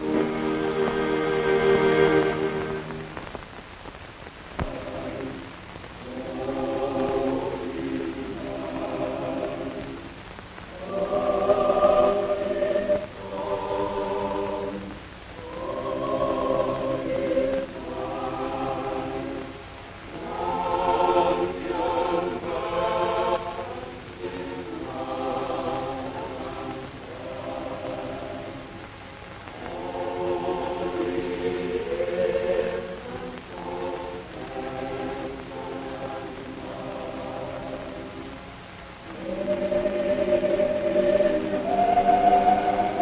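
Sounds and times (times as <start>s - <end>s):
choir singing: 0.0s - 3.1s, 4.6s - 5.4s, 6.0s - 10.0s, 10.7s - 38.4s, 39.0s - 43.0s.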